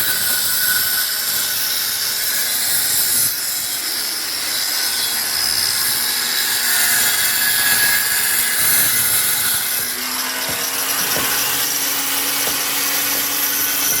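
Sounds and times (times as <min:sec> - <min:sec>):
angle grinder cutting wall: 0:00.0 - 0:14.0.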